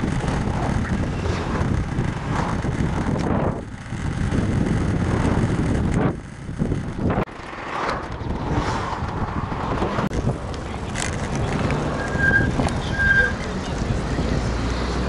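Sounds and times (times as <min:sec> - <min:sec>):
wind on microphone: 0:00.0 - 0:07.3, 0:08.0 - 0:13.1
city traffic noise: 0:00.0 - 0:15.0.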